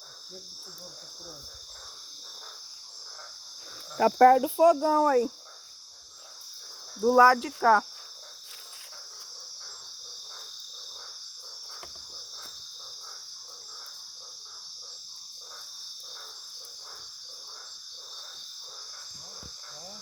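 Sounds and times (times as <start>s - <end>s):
crickets and insects buzzing: 0.0s - 20.0s
low pulsing insect call: 0.0s - 20.0s.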